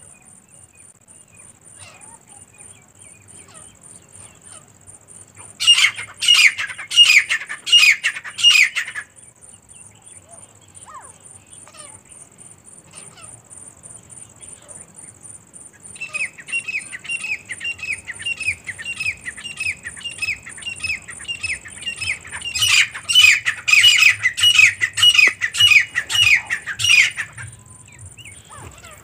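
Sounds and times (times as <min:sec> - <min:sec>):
francolins calling: 0:00.0 - 0:29.0.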